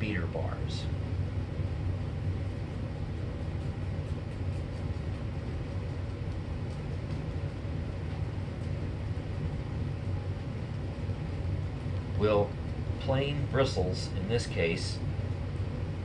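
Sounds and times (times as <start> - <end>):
ventilation fan humming: 0.0 - 16.0.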